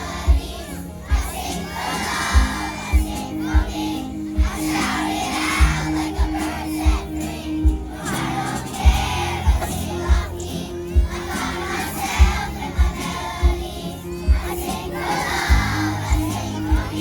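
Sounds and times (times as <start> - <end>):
backing track with kick-drum beat: 0.0 - 17.0
children's choir singing: 0.0 - 17.0.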